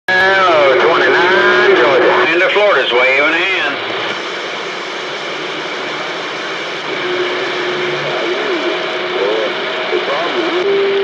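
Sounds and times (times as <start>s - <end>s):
faint wavering radio tones: 0.1s - 11.0s
radio static hiss: 0.1s - 11.0s.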